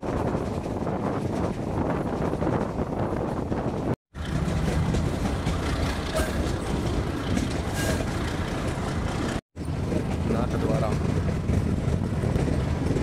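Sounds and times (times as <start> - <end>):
diesel locomotive engine: 0.0 - 13.0
train wheels rumbling on rail: 0.0 - 13.0.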